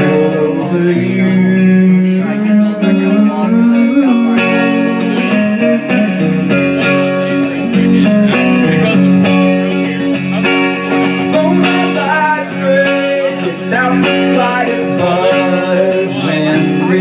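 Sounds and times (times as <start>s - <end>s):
guitar chords: 0.0s - 17.0s.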